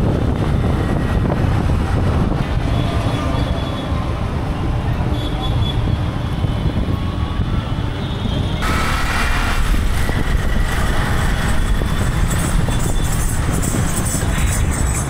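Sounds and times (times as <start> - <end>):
traffic engines rumbling: 0.0 - 15.0
wind: 0.0 - 15.0.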